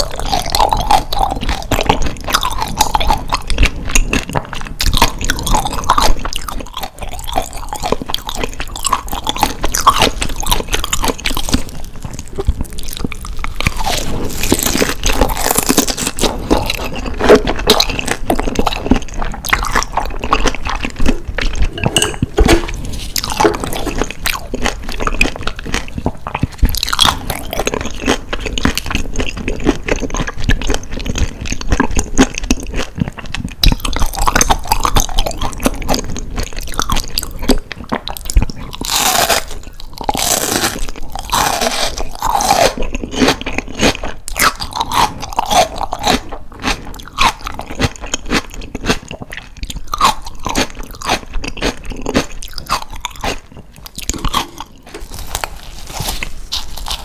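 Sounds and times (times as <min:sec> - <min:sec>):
chewing and crunching food: 0:00.0 - 0:57.0
moist mouth sounds: 0:00.0 - 0:57.0.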